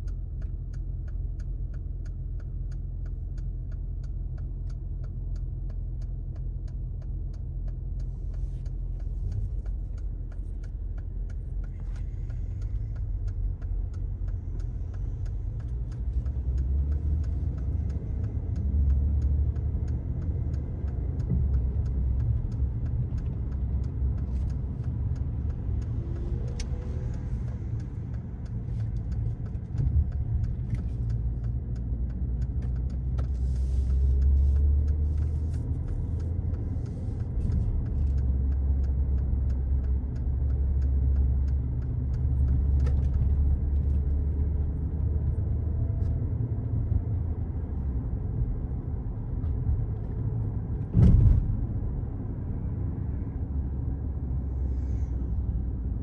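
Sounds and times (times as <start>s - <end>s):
car engine rumble: 0.0s - 56.0s
tyre road noise: 0.0s - 56.0s.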